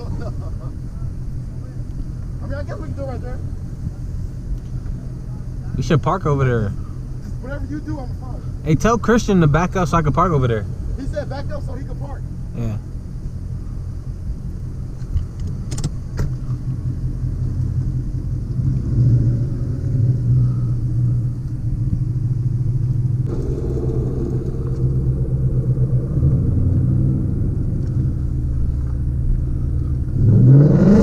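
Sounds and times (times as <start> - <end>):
car engine rumbling: 0.0 - 31.0.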